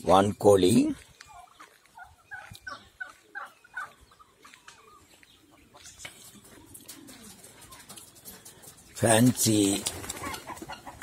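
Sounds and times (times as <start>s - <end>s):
turkeys clucking: 0.7s - 11.0s.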